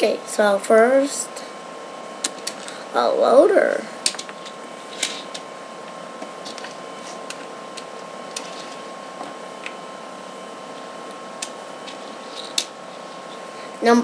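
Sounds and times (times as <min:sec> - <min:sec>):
steady hiss: 0:00.0 - 0:14.0
thin constant tone: 0:00.0 - 0:14.0.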